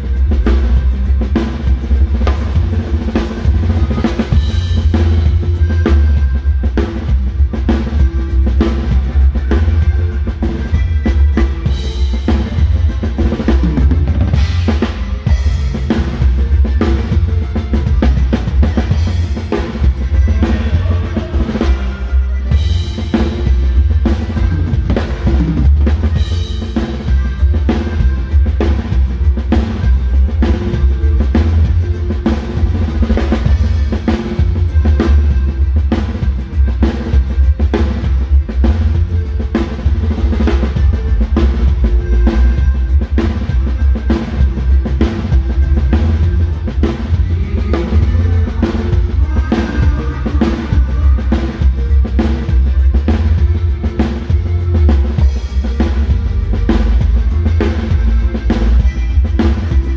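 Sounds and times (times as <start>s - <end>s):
band instruments: 0.0s - 59.9s
drum kit playing: 0.0s - 59.9s
heavy bass line: 0.0s - 59.9s.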